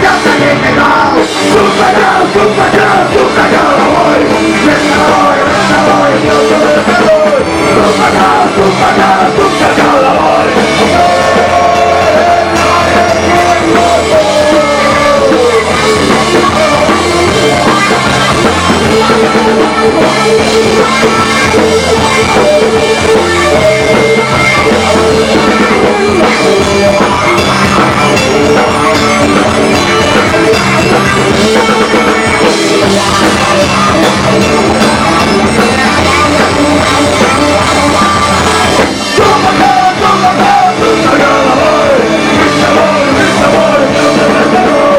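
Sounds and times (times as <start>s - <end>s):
live rock band playing: 0.0s - 44.9s
guitar sliding down in pitch: 0.1s - 44.9s.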